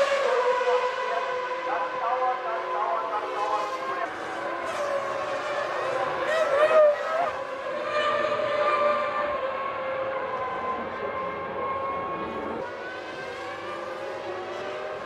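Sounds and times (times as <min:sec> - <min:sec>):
race car engines whining: 0:00.0 - 0:15.0.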